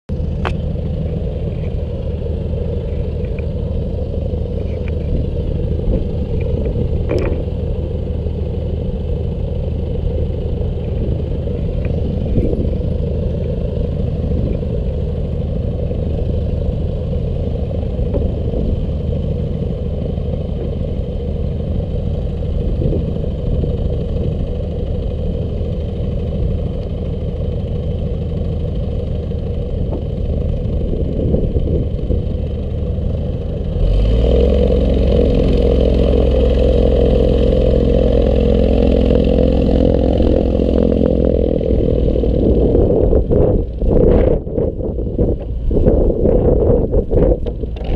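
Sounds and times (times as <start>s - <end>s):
propeller engine idling: 0.1s - 47.9s.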